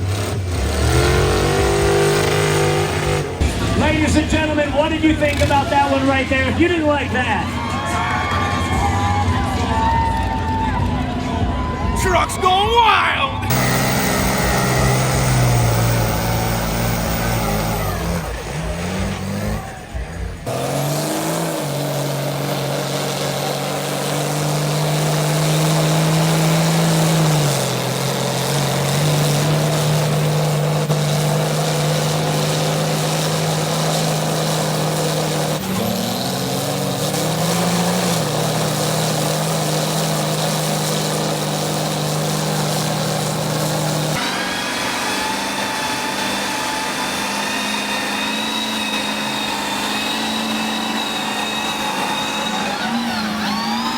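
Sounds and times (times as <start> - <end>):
higher-pitched engine: 0.0 - 53.9
truck engines revving: 0.0 - 53.9.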